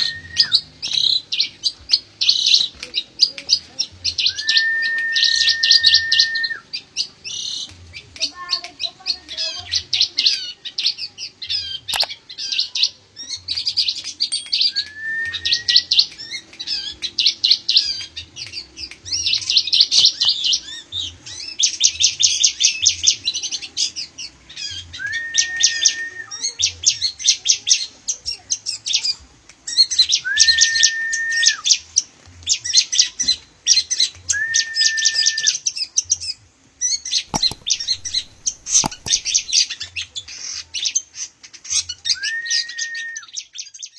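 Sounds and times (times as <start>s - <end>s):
long whistled bird notes: 0.0s - 3.3s, 4.0s - 8.0s, 9.4s - 27.9s, 29.7s - 31.8s, 32.5s - 40.2s, 41.7s - 43.9s
birds chattering song: 0.0s - 43.9s.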